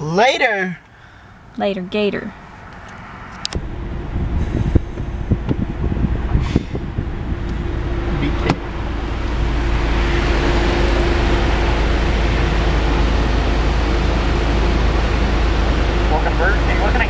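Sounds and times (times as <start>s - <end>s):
car idling: 0.0s - 17.0s
low hum: 1.0s - 17.0s.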